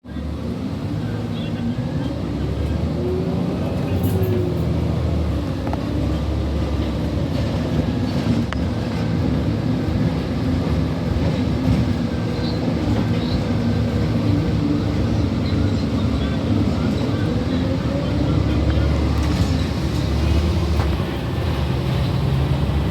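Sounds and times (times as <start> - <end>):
bus engine rumbling: 0.0 - 22.9.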